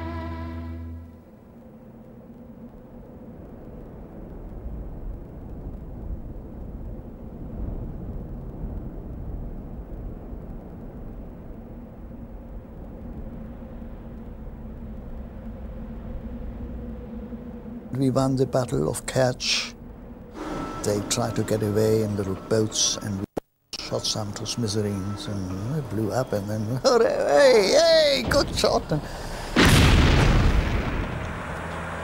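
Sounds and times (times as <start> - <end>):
faint low hum: 0.0 - 32.0
low steady rumble: 0.0 - 32.0.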